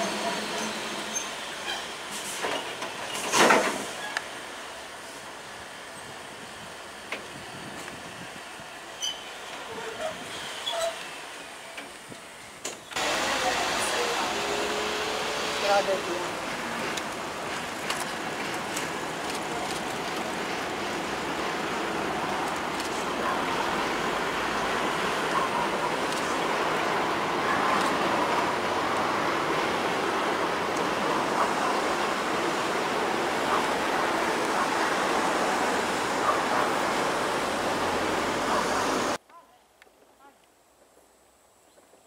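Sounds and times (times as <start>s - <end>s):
train wheels rumbling on bridge: 0.0s - 39.2s.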